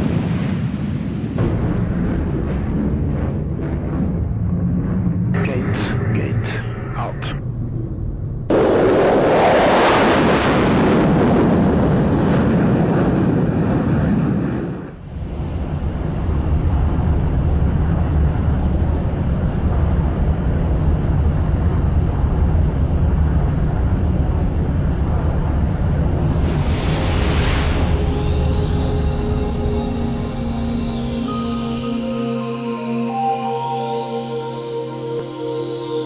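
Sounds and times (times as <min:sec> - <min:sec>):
jet engine roaring: 0:00.0 - 0:32.1.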